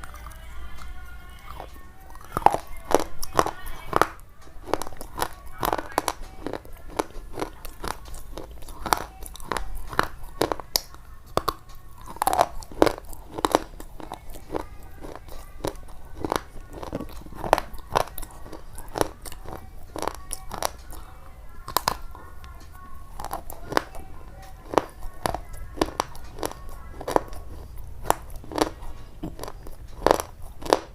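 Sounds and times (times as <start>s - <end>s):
crisp crunching: 0.0s - 30.9s.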